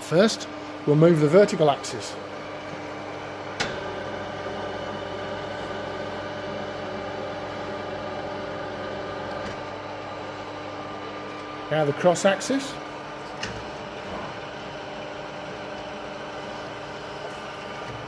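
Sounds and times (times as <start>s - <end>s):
milling machine humming: 0.0s - 18.0s.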